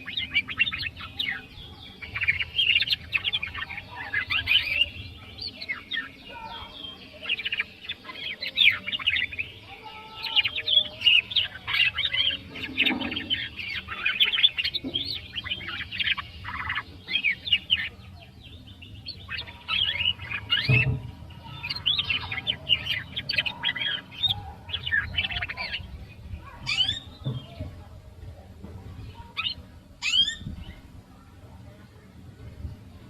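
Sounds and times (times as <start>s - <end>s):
canary singing: 0.0s - 27.7s, 29.0s - 30.8s.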